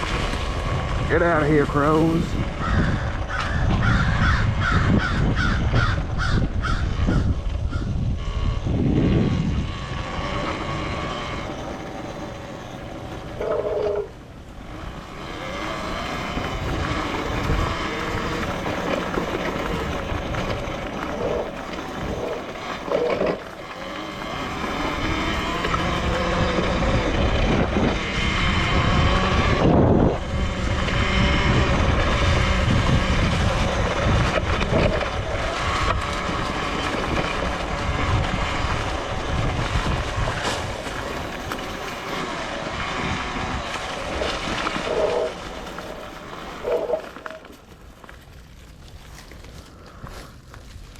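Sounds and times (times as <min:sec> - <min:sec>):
electric drivetrain whine: 0:00.0 - 0:50.9
wind and road noise: 0:00.0 - 0:50.9.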